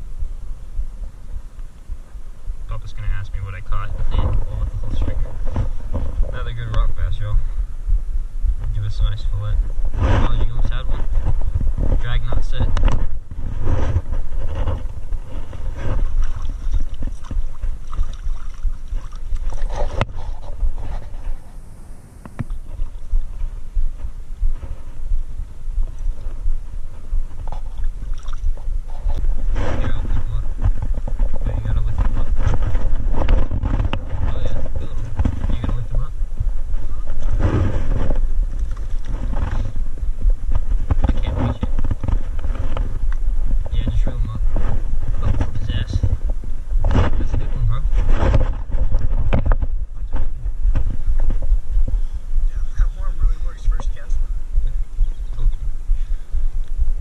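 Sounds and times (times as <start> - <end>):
clothing rubbing on microphone: 0.0 - 57.0
wind rumbling on microphone: 0.0 - 57.0.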